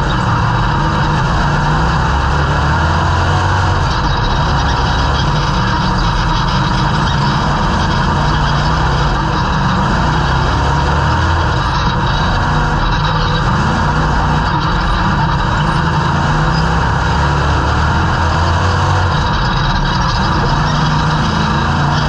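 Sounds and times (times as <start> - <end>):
race car engine running hard: 0.0 - 22.0.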